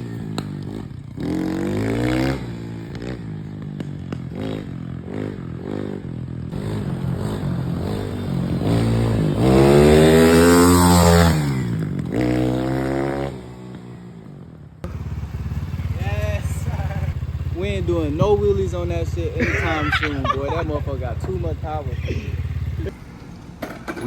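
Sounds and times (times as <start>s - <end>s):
dirt bike engine revving: 0.0s - 14.2s, 14.8s - 23.0s.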